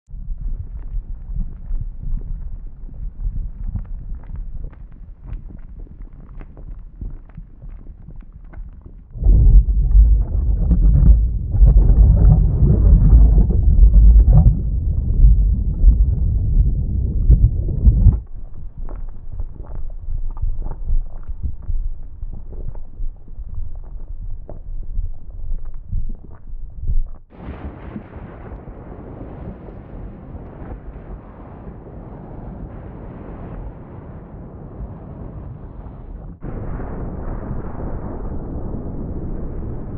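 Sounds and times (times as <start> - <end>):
volcanic eruption rumbling: 0.1 - 25.8, 26.8 - 39.9.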